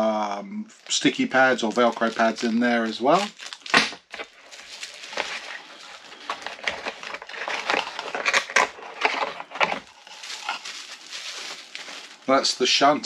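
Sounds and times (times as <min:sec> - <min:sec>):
bubble wrap crinkling: 0:00.8 - 0:13.0.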